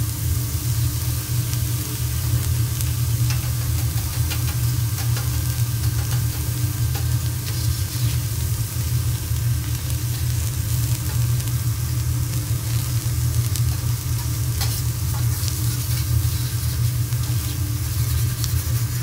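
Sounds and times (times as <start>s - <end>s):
steady low hum: 0.0s - 19.0s
vegetables sizzling on griddle: 0.0s - 19.0s.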